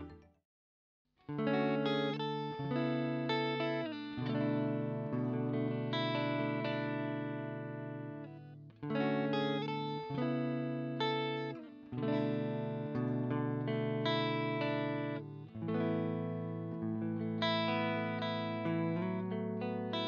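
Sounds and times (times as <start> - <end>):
electric guitar chords: 0.0 - 0.2, 1.3 - 20.0.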